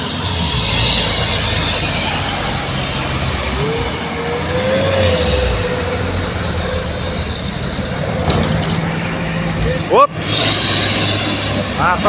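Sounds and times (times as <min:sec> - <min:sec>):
heavy truck engine under load: 0:00.0 - 0:12.0
steady whine: 0:00.0 - 0:12.0.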